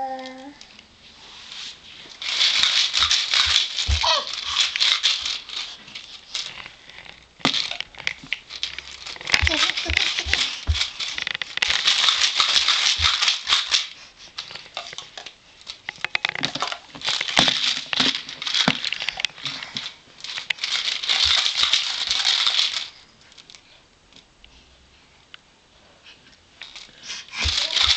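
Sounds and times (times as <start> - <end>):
crinkling and rattling by hand: 0.0 - 24.3, 26.3 - 27.9.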